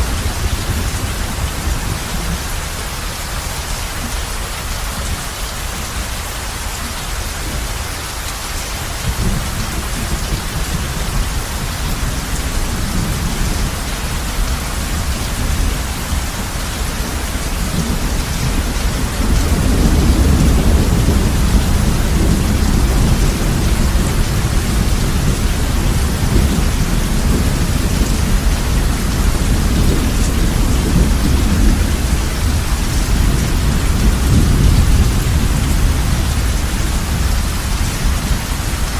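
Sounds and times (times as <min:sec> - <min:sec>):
low rumble of thunder: 0:00.0 - 0:04.2, 0:08.8 - 0:38.9
heavy rain on a roof: 0:00.0 - 0:38.9.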